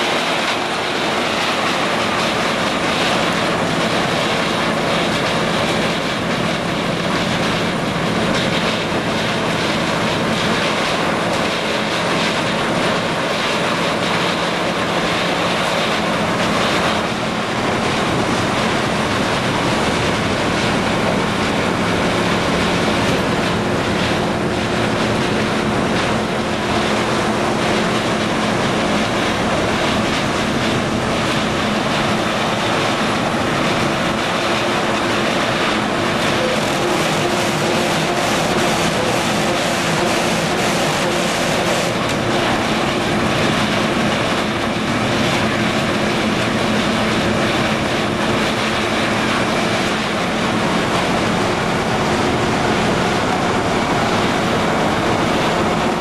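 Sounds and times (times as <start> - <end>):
cardboard baler machine running: 0.0 - 56.0.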